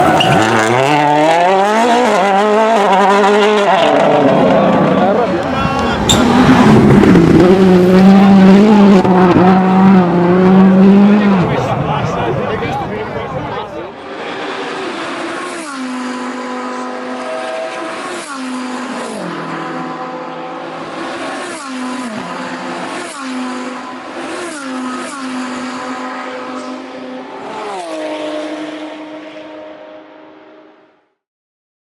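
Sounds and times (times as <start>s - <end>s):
rally car engine at high revs: 0.0s - 12.8s, 13.4s - 30.8s.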